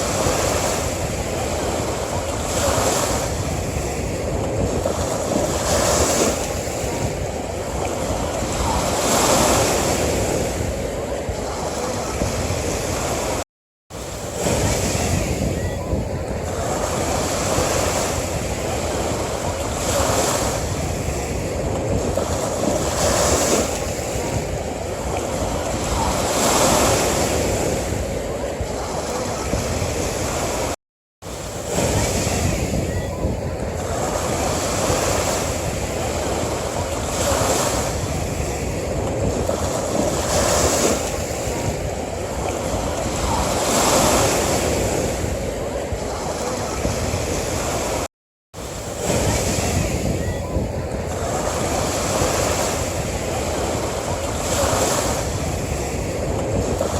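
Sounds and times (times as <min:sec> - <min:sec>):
ocean waves washing onto beach: 0:00.0 - 0:56.9.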